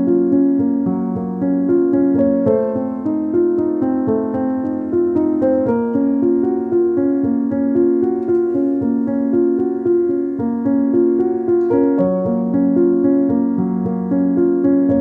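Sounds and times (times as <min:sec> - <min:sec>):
gentle keyboard melody: 0:00.0 - 0:15.0.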